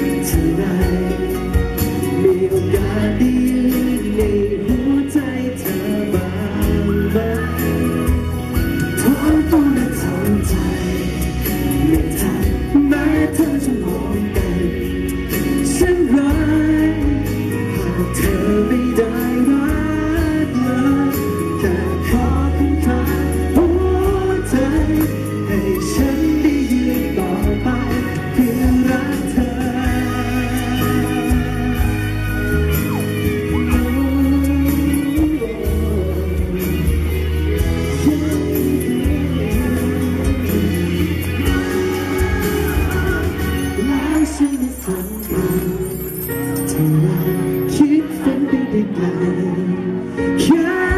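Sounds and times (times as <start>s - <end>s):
accompaniment music with beat: 0.0s - 49.4s
man singing into microphone: 0.0s - 50.9s.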